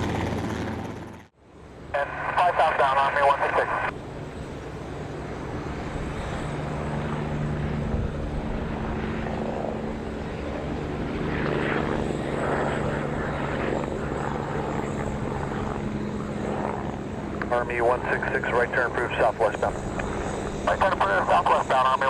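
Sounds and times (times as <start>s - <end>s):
helicopter turbines and rotor hum: 0.0s - 22.0s.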